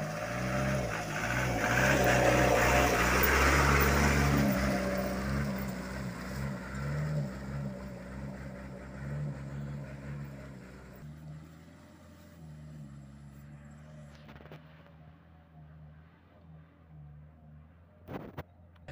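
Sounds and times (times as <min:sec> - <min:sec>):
truck engine passing: 0:00.0 - 0:18.9.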